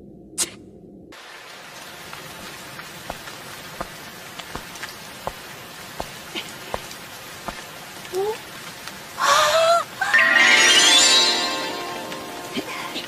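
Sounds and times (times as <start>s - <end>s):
rain falling steadily: 1.1s - 13.0s.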